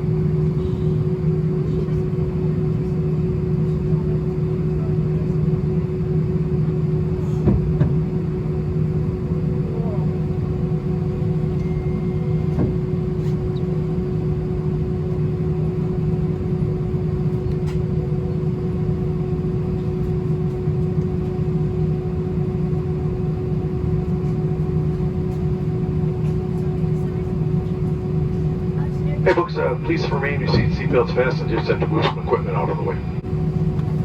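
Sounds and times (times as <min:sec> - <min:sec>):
airplane cabin rumble and hum: 0:00.0 - 0:34.0.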